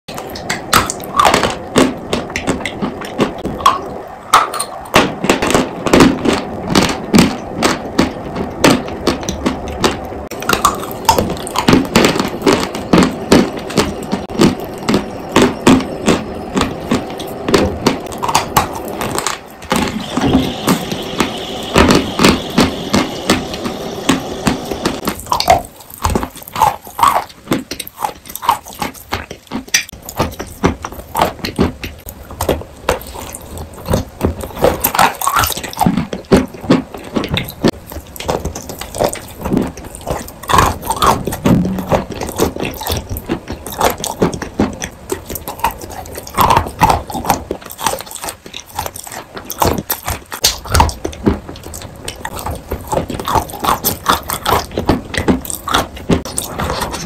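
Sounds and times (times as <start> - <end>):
chalk being bitten and chewed: 10.3 - 57.0.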